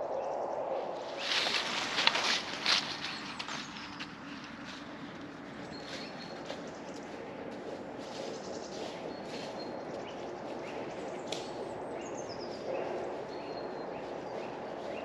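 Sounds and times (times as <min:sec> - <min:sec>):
small birds chirping: 0:01.1 - 0:15.0.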